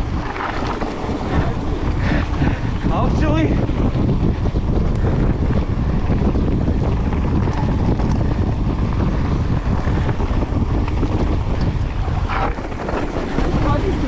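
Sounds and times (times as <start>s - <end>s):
bike tyres rumbling on dirt trail: 0.0s - 14.0s
wind buffeting microphone: 0.0s - 14.0s.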